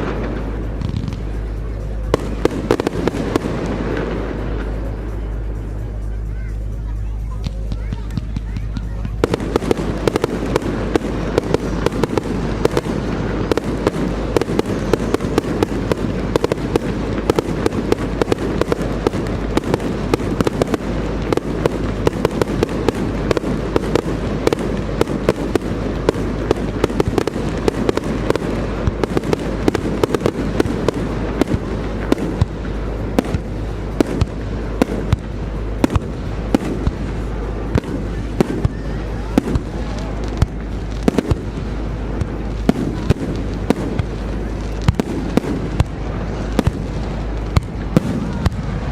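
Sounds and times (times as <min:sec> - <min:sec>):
fireworks bangs and crackles: 0:00.0 - 0:48.9
low rumble of fireworks: 0:00.0 - 0:48.9.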